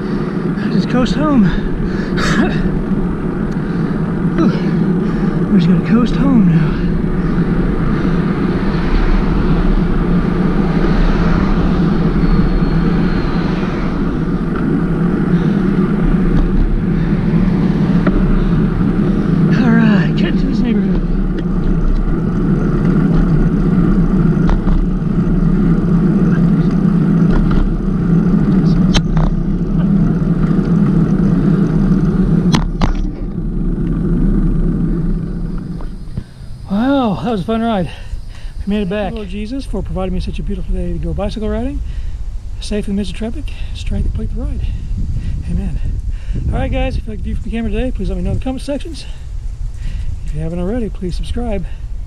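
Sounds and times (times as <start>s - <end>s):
bicycle road noise: 0.0s - 52.0s
rushing wind: 0.0s - 52.0s.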